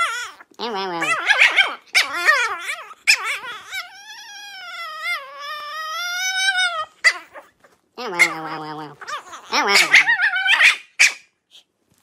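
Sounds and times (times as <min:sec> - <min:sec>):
dog howling: 0:00.0 - 0:10.8.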